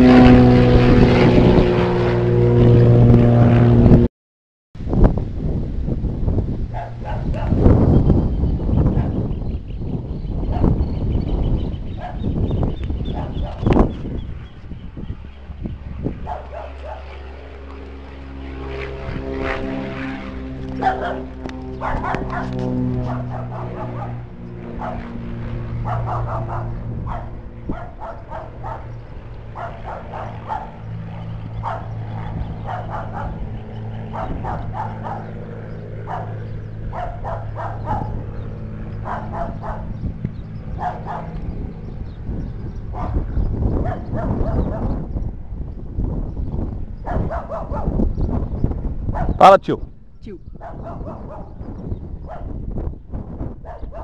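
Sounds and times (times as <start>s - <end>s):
propeller plane passing: 0.0s - 4.1s, 4.8s - 54.0s.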